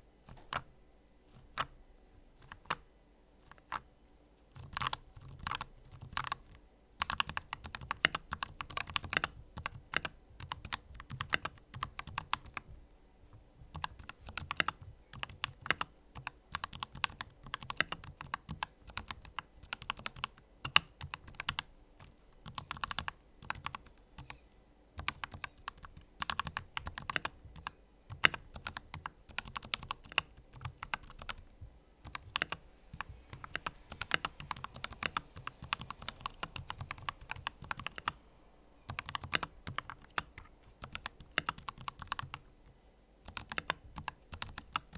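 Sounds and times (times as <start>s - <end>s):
mechanical keyboard typing: 0.3s - 0.7s, 1.3s - 1.7s, 2.4s - 2.8s, 3.4s - 3.9s, 4.6s - 12.7s, 13.7s - 24.4s, 25.0s - 31.4s, 32.0s - 38.2s, 38.9s - 42.5s, 43.2s - 44.9s.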